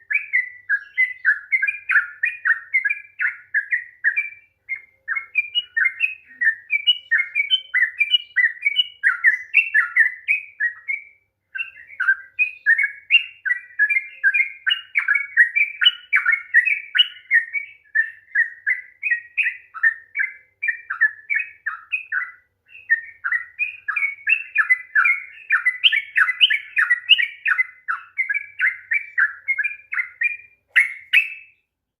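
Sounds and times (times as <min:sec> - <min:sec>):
bird singing chattering notes: 0:00.0 - 0:11.0, 0:11.6 - 0:31.6.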